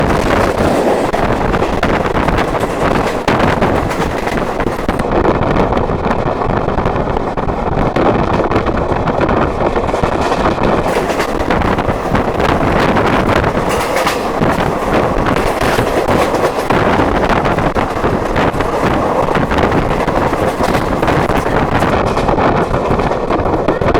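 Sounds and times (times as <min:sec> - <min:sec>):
train rumble and rush: 0:00.0 - 0:23.9.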